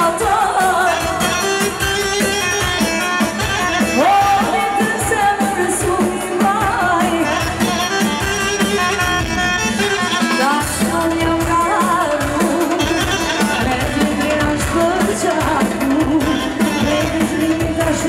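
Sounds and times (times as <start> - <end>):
amplified band accompaniment: 0.0 - 18.0
regular drum beat: 0.0 - 18.0
woman singing into microphone: 0.0 - 18.0.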